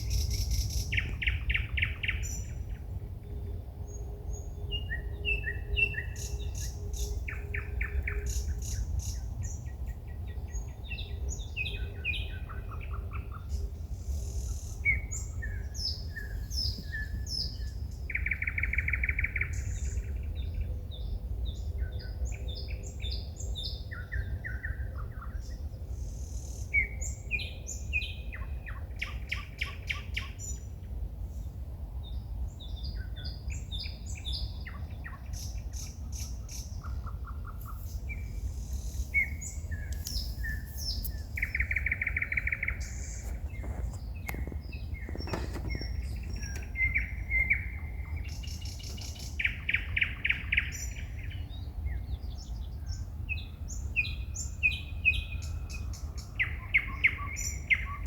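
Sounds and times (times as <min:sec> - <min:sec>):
low steady rumble: 0:00.0 - 0:56.6
songbirds singing: 0:00.0 - 0:58.0.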